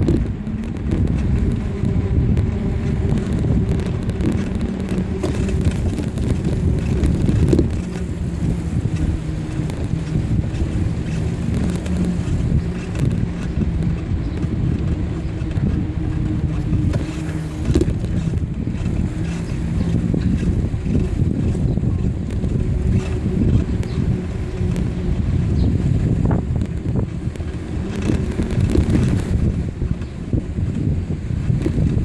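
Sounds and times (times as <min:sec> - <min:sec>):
bicycle riding rumble: 0:00.0 - 0:32.0
wind buffeting microphone: 0:00.0 - 0:32.0.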